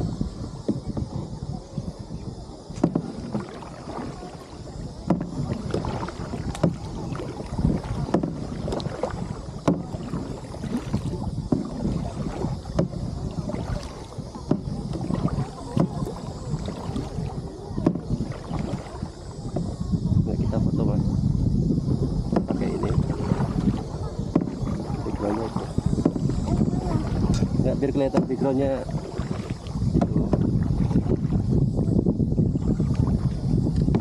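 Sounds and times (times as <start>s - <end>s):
paddle splashing and knocking: 0.0s - 34.0s
wind rumble on microphone: 0.0s - 34.0s.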